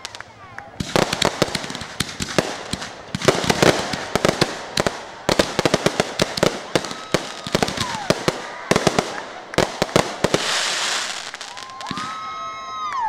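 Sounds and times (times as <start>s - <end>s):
fireworks crackling: 0.0s - 12.8s.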